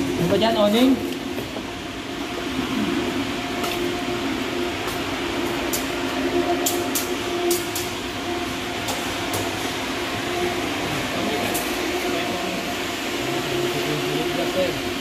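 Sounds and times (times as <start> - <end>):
machine drone: 0.0 - 15.0
rushing noise: 1.6 - 15.0.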